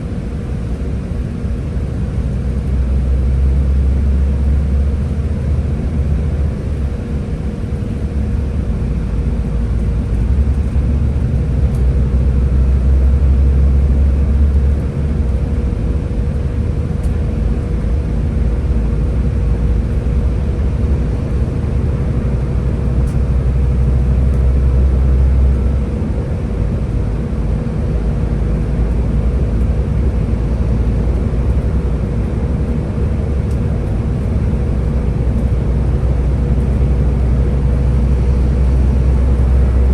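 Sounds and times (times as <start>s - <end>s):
bus diesel engine rumbling: 0.0s - 39.9s
engine whine: 0.0s - 39.9s.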